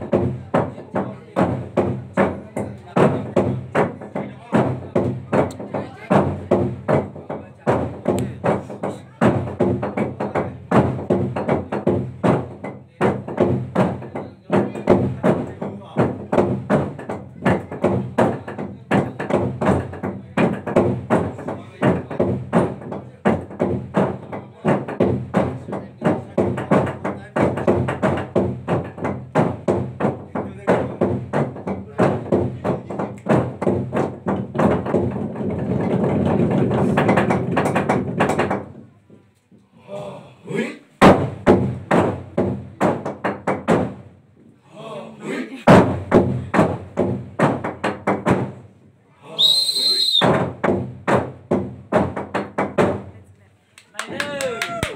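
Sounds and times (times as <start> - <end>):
log drum hollow wooden strikes: 0.0 - 39.7, 41.0 - 44.6, 45.7 - 48.8, 49.6 - 53.2.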